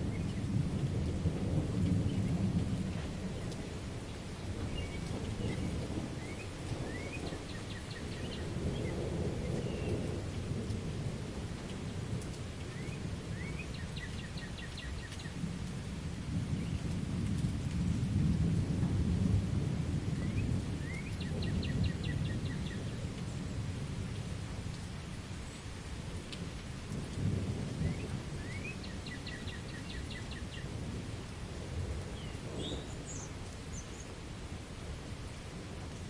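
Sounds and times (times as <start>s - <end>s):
thunder rumbling: 0.0s - 25.3s, 26.1s - 34.0s
steady rain: 0.0s - 36.0s.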